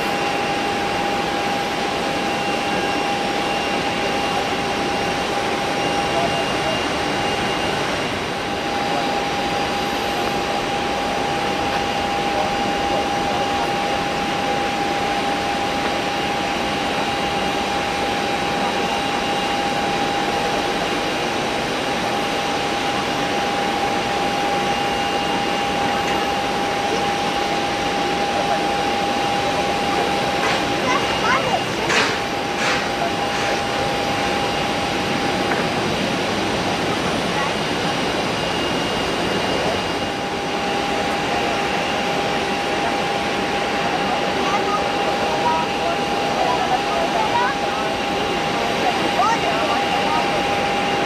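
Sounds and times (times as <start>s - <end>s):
airliner engines whining drone: 0.0s - 51.0s.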